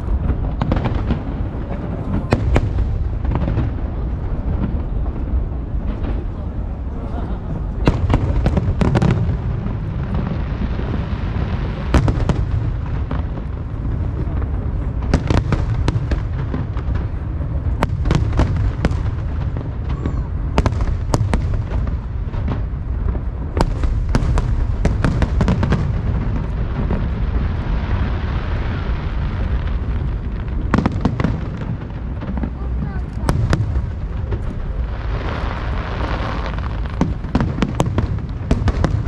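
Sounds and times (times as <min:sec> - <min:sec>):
fireworks bangs and cracks: 0:00.0 - 0:39.0
fireworks rumble: 0:00.0 - 0:39.0.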